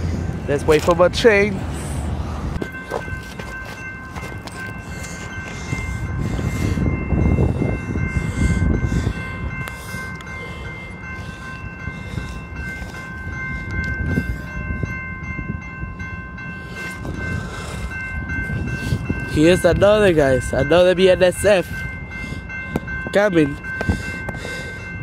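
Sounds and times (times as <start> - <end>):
train rumbling on tracks: 0.0 - 25.0
high-pitched crossing bell ringing: 2.6 - 25.0.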